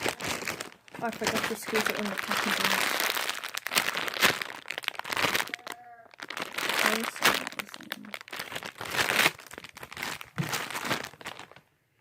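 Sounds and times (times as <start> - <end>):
plastic packaging crinkling: 0.0 - 11.7.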